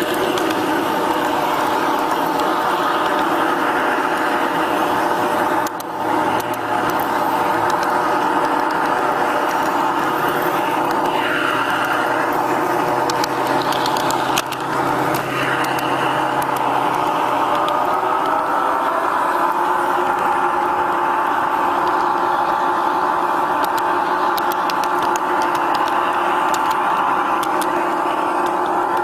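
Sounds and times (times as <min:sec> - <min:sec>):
model train running: 0:00.0 - 0:29.0
train wheels clicking over rails: 0:00.0 - 0:29.0.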